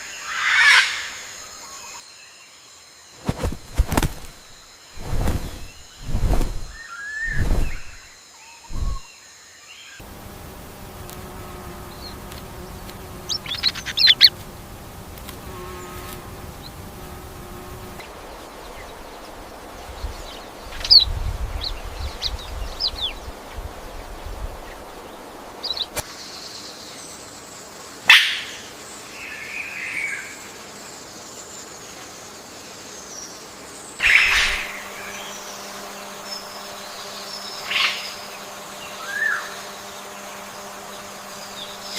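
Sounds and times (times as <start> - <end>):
insect-like hum and buzz: 0.0 - 41.9.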